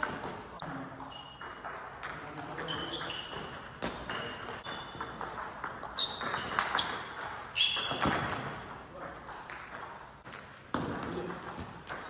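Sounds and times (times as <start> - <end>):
table tennis ball pinging: 0.0 - 12.0.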